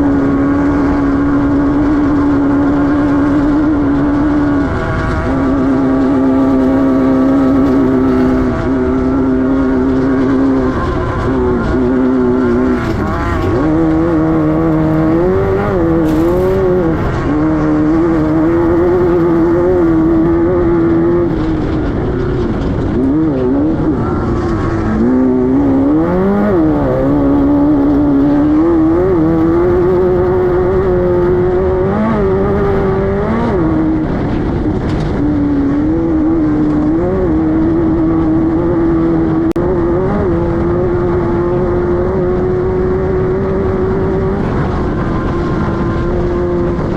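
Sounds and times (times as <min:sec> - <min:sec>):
race car engine running hard: 0:00.0 - 0:46.9.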